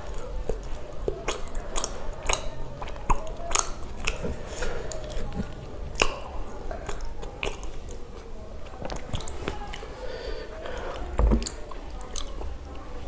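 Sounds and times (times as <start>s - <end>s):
mouth clicks and smacks: 0.0s - 9.9s, 10.6s - 12.6s
biting and chewing: 0.0s - 13.0s.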